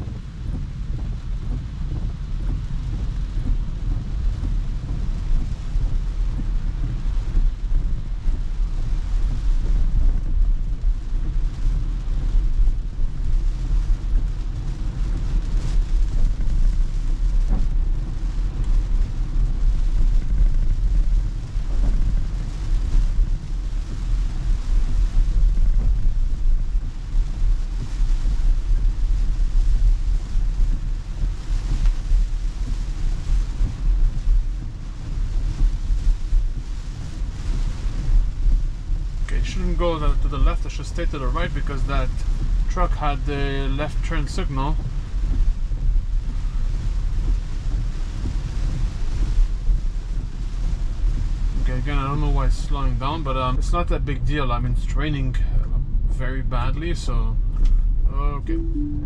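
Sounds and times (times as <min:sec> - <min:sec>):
rain on car roof: 0:00.0 - 0:59.0
tyres rumbling on wet road: 0:00.0 - 0:59.0.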